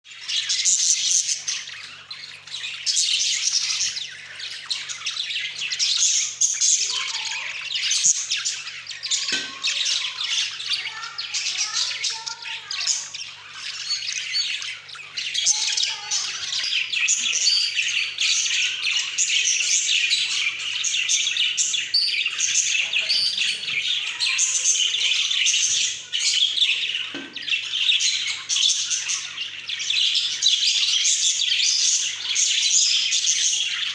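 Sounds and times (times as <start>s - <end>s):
budgerigars chirping: 0.0s - 33.9s.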